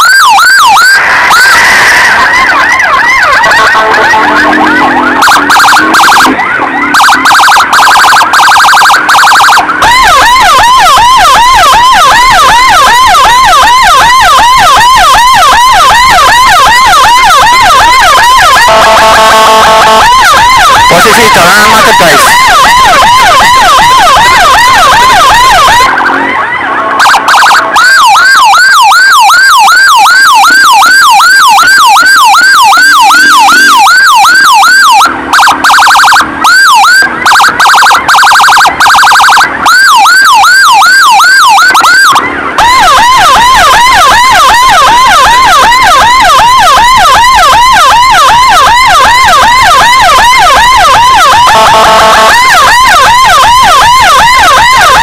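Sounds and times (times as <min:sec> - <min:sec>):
electronic siren yelping: 0:00.0 - 0:55.0.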